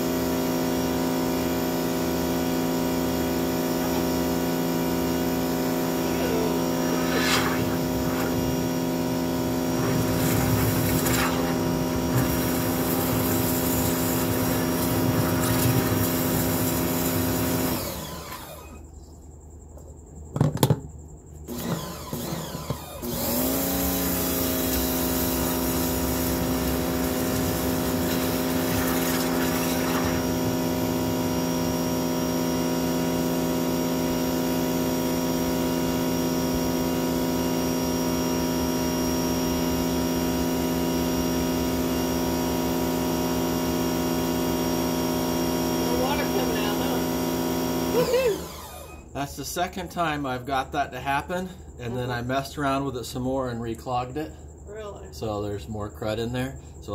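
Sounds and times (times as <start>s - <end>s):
electric pressure washer motor: 0.0s - 18.8s, 21.5s - 49.1s.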